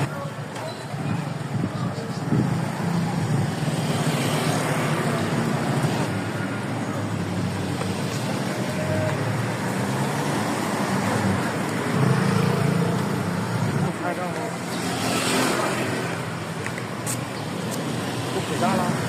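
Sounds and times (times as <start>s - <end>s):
vehicles passing: 0.0s - 19.0s
loud vehicle passing: 2.3s - 19.0s.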